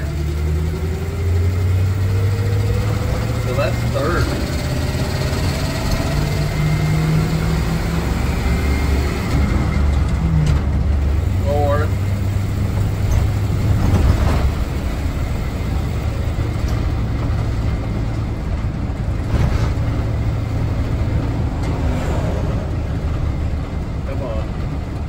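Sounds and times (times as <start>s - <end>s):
engine drone: 0.0s - 25.0s
road noise: 0.0s - 25.0s.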